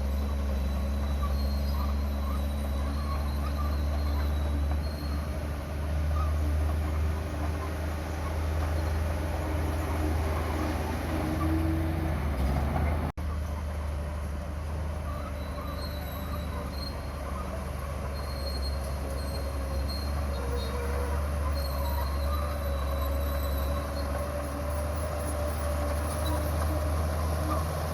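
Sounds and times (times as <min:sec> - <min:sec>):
steel tracks squealing: 0:00.0 - 0:13.1, 0:15.0 - 0:27.9
bulldozer engine rumbling: 0:00.0 - 0:27.9.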